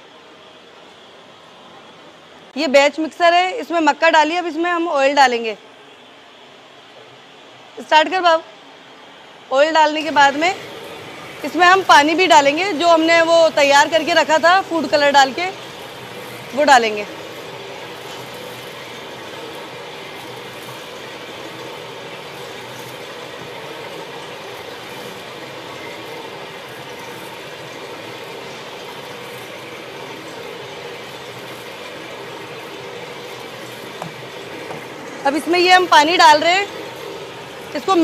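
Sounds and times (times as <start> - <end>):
mixer mechanical whirr: 0.0 - 38.0.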